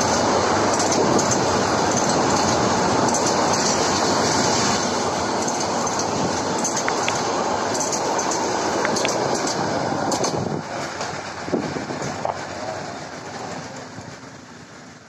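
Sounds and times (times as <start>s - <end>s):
train passing at speed: 0.0s - 15.0s
wheels clicking on rails: 0.0s - 15.0s.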